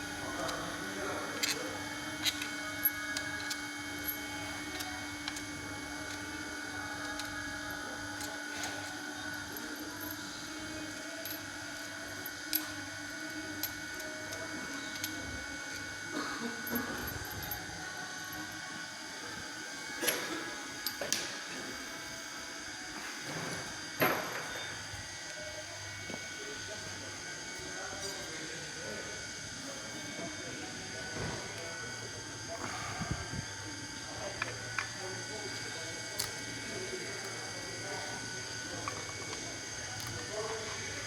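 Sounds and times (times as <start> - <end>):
steady background hum: 0.0 - 41.0.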